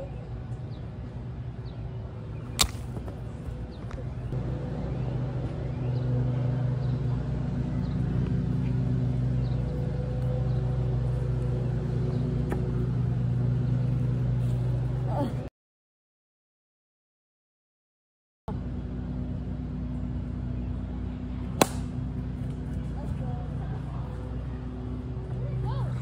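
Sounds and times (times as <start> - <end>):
steady engine hum: 0.0 - 15.5, 18.5 - 26.0.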